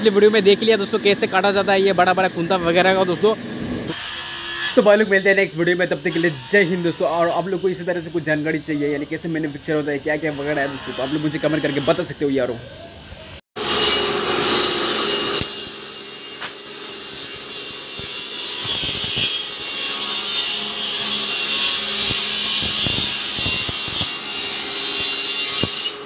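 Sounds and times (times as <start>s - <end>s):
woodworking machinery hissing: 0.0s - 26.0s.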